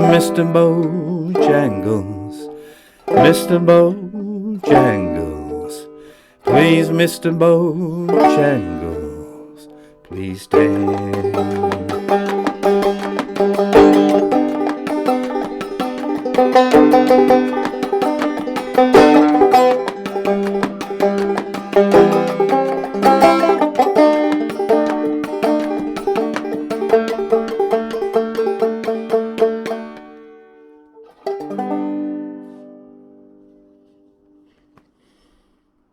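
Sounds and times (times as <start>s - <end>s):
banjo chord ringing: 0.0s - 34.5s
banjo picking: 0.0s - 34.6s.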